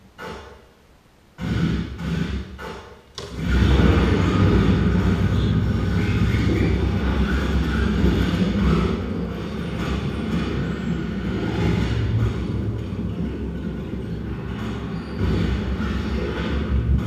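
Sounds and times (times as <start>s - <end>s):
low dense electronic texture: 0.0s - 17.0s.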